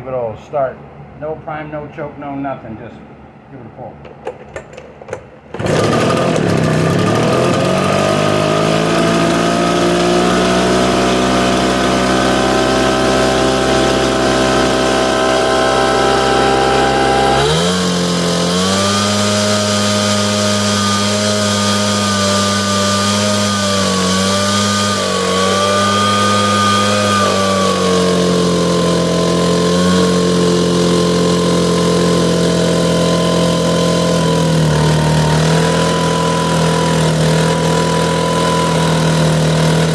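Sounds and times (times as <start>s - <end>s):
leaf blower engine running: 5.5s - 39.9s.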